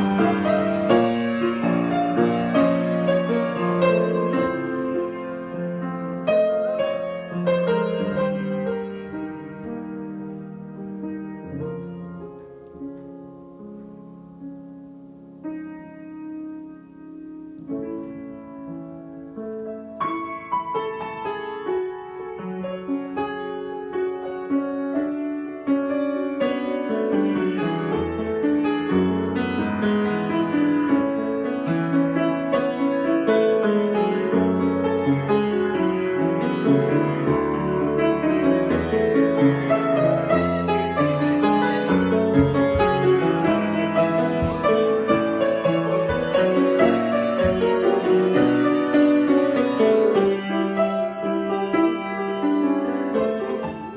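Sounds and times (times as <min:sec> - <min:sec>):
improvised piano music: 0:00.0 - 0:53.9.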